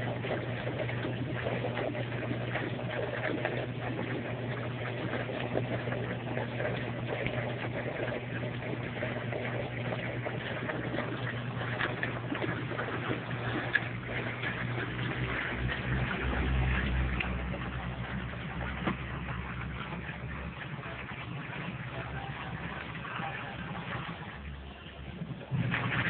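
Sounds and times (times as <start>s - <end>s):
washing machine motor hum: 0.0s - 26.0s
water churning and splashing: 0.0s - 26.0s.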